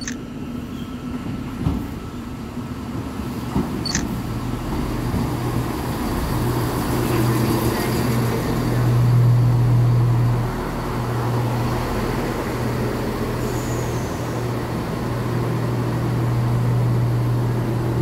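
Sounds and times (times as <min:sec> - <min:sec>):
diesel train engine droning: 0:00.0 - 0:18.0.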